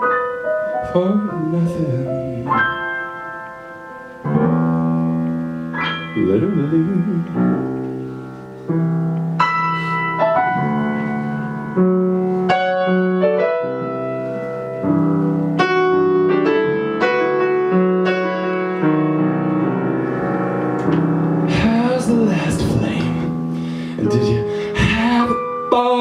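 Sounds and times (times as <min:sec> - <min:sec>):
piano chords over bass line: 0:00.0 - 0:26.0.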